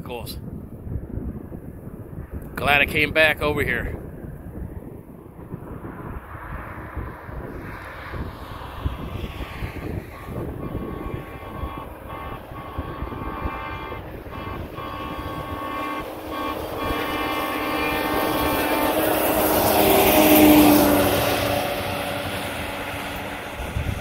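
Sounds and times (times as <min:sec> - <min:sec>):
rail vehicle whine: 0:04.1 - 0:24.0
rail vehicle passing: 0:04.8 - 0:24.0.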